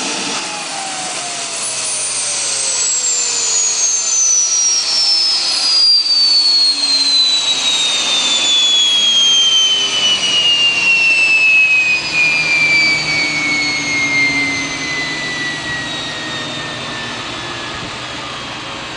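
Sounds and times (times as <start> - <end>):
generator spinning down: 0.0 - 18.9
high whine falling in pitch: 0.0 - 18.9.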